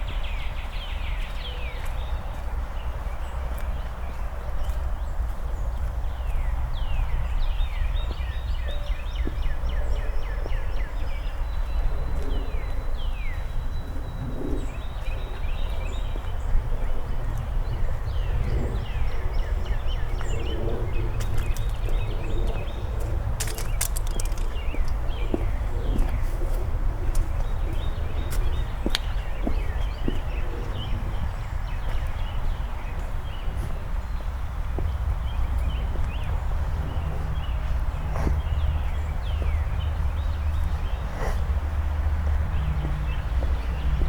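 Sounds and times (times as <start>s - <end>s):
songbirds chirping and singing: 0.0s - 44.0s
steady low rumble: 0.0s - 44.0s.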